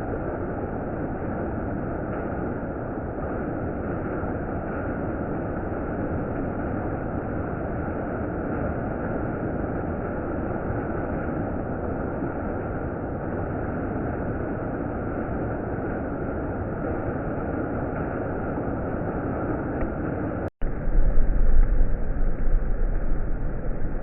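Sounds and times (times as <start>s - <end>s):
heavy rain downpour: 0.0s - 24.0s.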